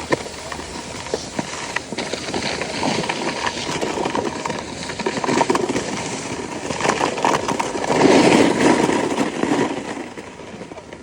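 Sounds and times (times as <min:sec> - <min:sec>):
snowboard scraping over snow: 0:00.0 - 0:11.0.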